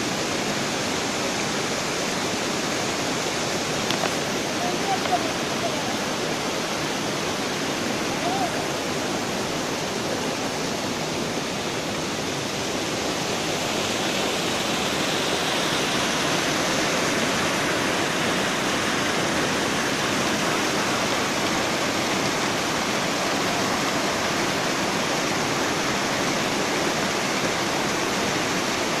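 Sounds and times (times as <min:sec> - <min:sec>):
mountain stream rushing: 0:00.0 - 0:29.0
water running down wooden flume: 0:00.0 - 0:29.0.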